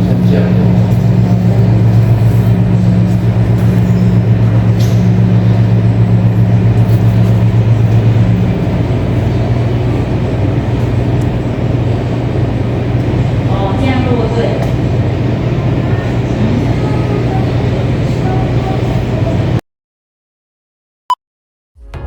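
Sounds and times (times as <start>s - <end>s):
jet engines droning: 0.0s - 19.6s
low rumble: 0.0s - 19.6s.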